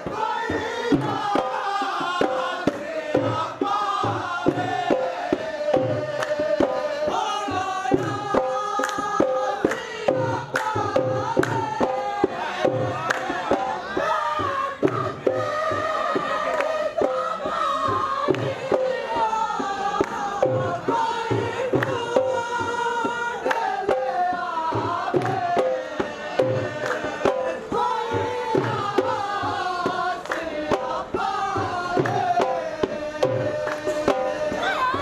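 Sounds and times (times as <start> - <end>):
men singing through loudspeakers: 0.0 - 35.0
steady percussive beat: 0.0 - 35.0.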